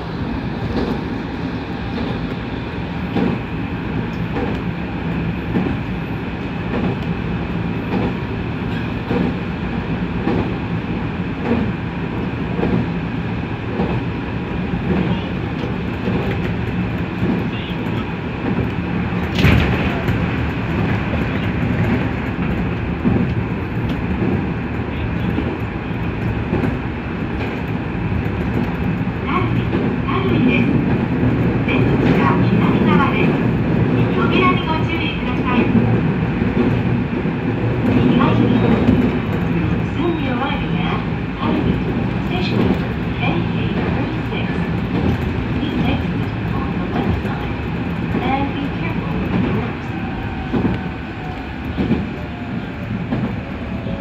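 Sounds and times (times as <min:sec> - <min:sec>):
rail clicks: 0:00.0 - 0:54.0
train running rumble: 0:00.0 - 0:54.0.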